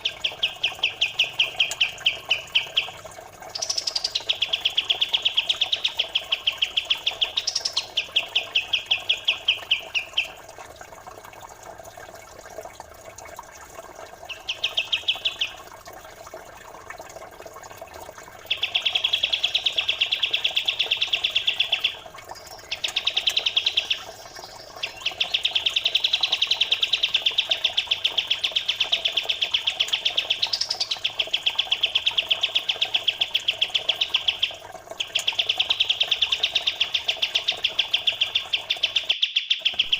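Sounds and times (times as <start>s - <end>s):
songbird trilling: 0.0s - 10.4s, 14.3s - 15.6s, 18.5s - 39.9s
trickling water: 0.0s - 39.9s.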